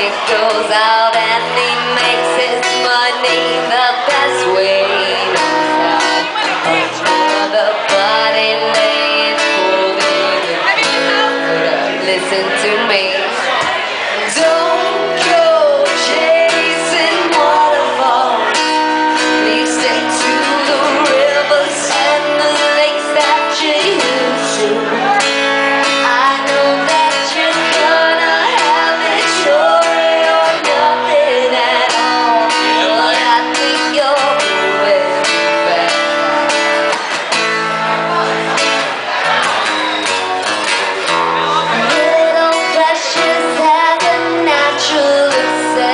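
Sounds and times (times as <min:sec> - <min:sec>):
woman singing: 0:00.0 - 0:13.7, 0:14.3 - 0:37.0, 0:41.6 - 0:45.9
strummed acoustic guitar: 0:00.0 - 0:45.9.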